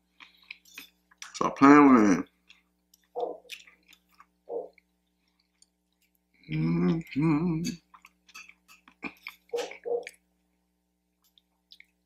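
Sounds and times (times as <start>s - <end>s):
soft chewing: 0.0s - 1.4s, 2.2s - 12.0s.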